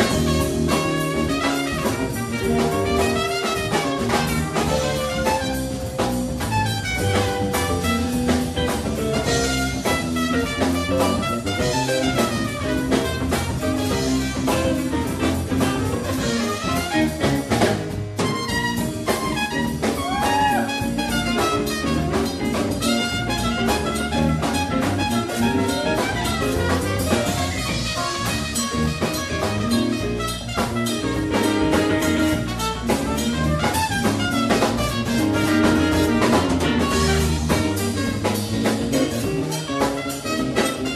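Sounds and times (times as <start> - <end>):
drum kit: 0.0 - 40.9
electric guitars: 0.0 - 40.9
trumpet: 0.0 - 40.9.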